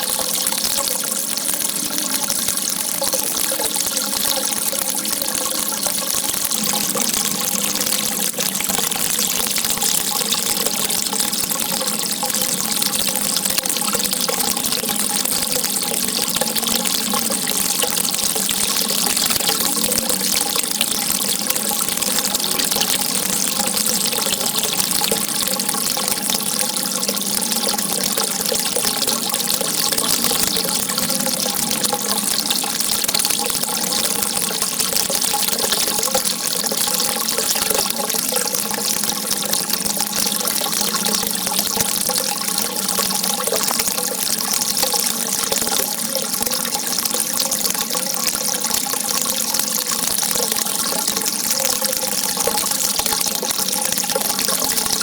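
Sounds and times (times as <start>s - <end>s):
water gushing and rushing: 0.0s - 55.0s.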